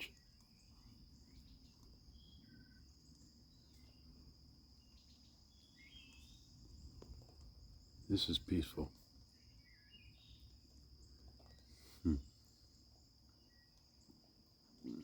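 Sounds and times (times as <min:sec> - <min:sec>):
crickets trilling: 0:00.0 - 0:15.0
faint chirps: 0:00.0 - 0:15.0.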